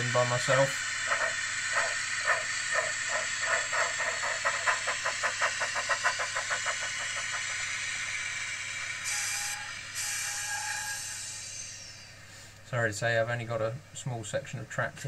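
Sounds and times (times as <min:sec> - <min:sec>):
steam hissing: 0:00.0 - 0:12.7
steam locomotive chuffs: 0:00.0 - 0:12.7.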